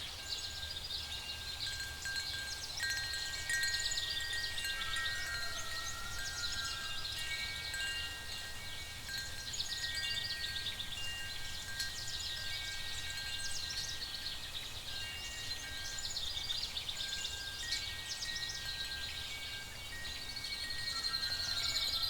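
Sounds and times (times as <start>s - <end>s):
soft chime-like tones: 0.0s - 22.0s.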